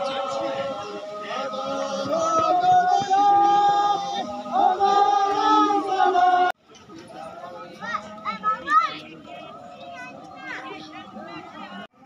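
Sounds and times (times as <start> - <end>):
group singing long held notes: 0.0 - 11.9.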